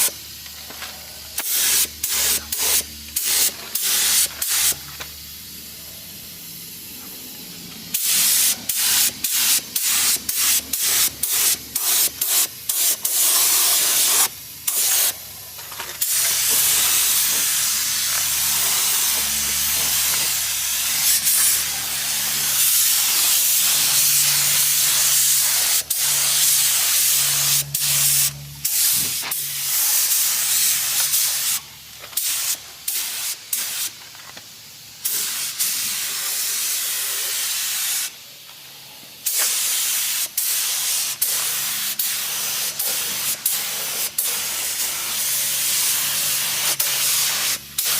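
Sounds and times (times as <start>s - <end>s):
spray gun hissing: 0.0s - 34.0s, 34.6s - 38.2s, 39.2s - 47.9s.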